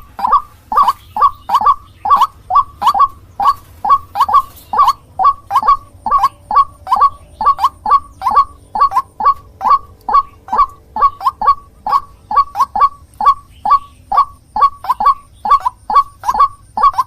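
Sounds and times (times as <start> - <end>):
waterhen calling harsh repeated notes: 0.0 - 17.0.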